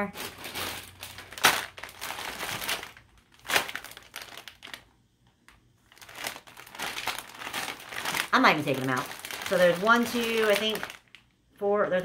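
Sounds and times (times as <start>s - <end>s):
plastic bags crinkling: 0.0s - 11.3s.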